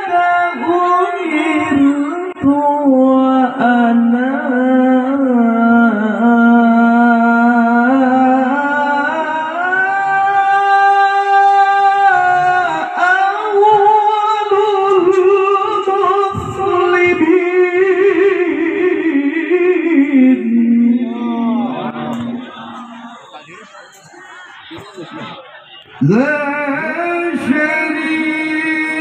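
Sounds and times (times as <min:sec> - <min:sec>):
man reciting melodically over pa: 0:00.0 - 0:29.0.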